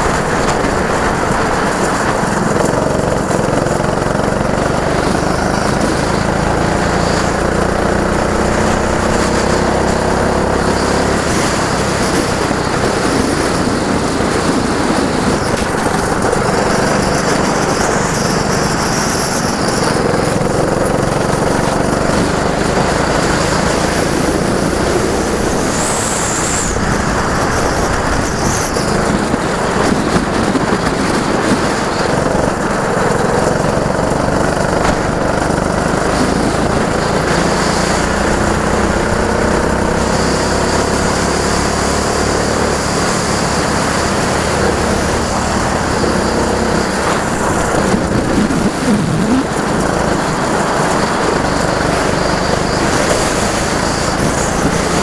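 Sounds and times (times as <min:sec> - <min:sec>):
go-kart engines running: 0:00.0 - 0:55.0.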